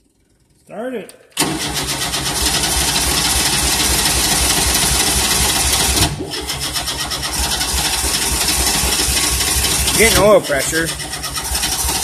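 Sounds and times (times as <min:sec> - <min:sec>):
starter motor cranking engine: 0:01.4 - 0:12.0.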